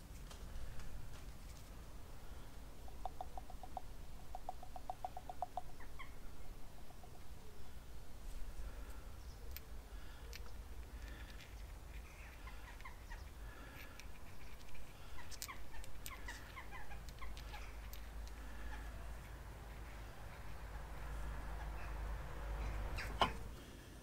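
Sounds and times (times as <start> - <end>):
birds chirping: 1.7 - 23.6.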